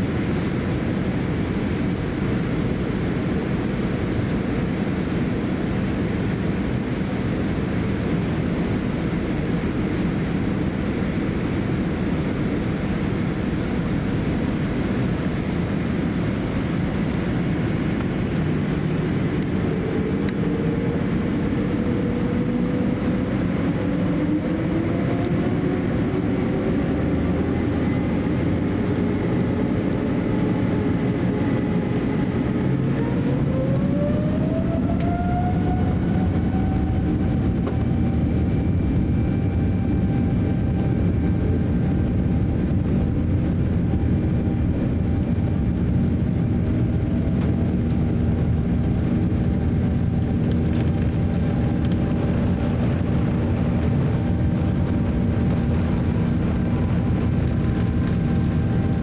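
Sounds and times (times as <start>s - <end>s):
airliner cabin rumble and hiss: 0.0s - 59.0s
jet engine whine: 0.0s - 59.0s.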